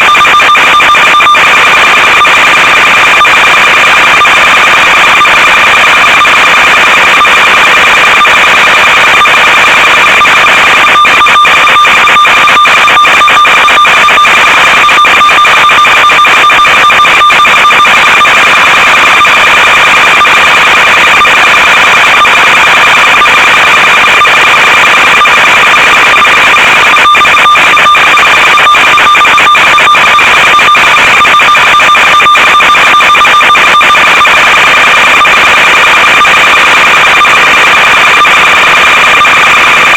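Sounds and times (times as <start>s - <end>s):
radio signal crackling: 0.0s - 39.9s.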